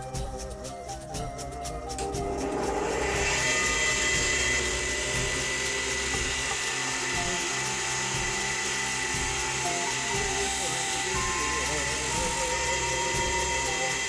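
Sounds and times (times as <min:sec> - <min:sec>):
metal polished on buffing wheel: 0:00.0 - 0:14.0
bench polisher motor whine: 0:01.9 - 0:14.0.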